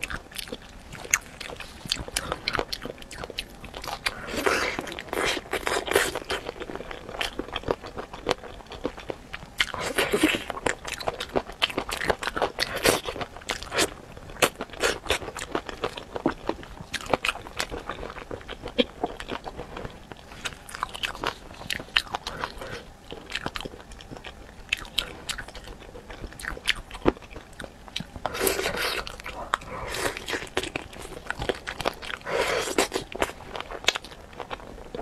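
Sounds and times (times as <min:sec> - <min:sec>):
chewing with crunches: 0:00.0 - 0:35.0.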